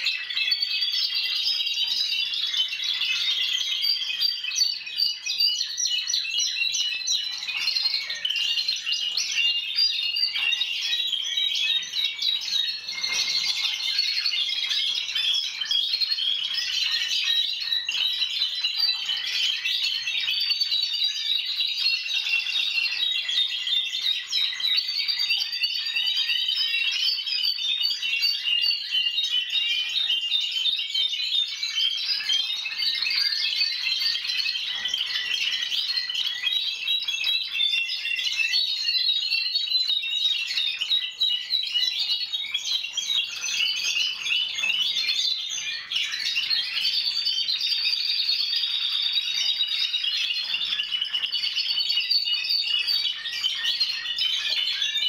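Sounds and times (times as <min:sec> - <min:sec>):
canaries trilling and chirping: 0:00.0 - 0:55.0.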